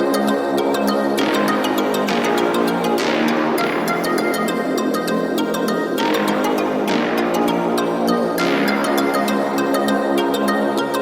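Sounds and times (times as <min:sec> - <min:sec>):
electronic music with synth: 0:00.0 - 0:11.0.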